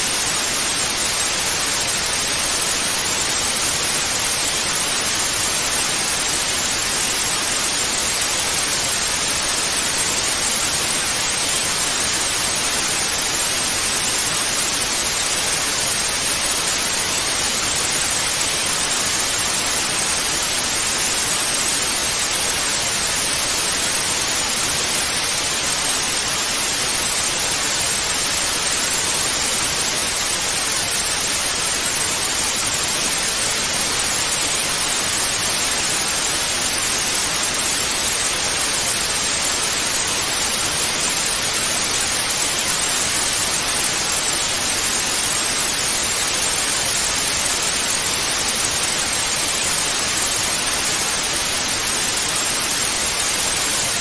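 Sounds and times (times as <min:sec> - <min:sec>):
tv static hiss: 0:00.0 - 0:54.0.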